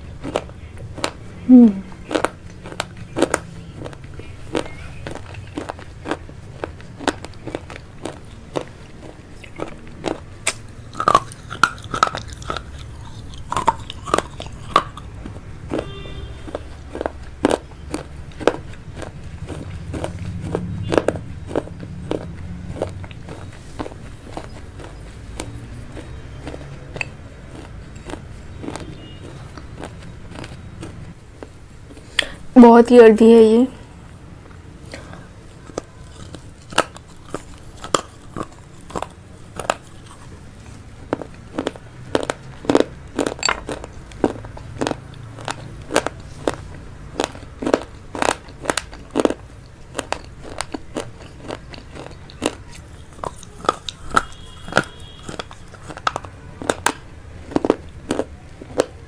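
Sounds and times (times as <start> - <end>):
chewing with mouth clicks: 0.0 - 32.4, 34.5 - 59.0.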